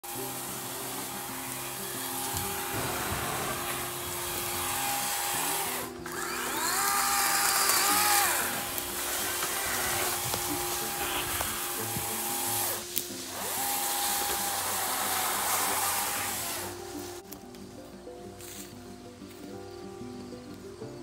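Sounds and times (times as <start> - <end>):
electric chainsaw whining: 0.0 - 17.2
background music with low notes: 0.0 - 21.0.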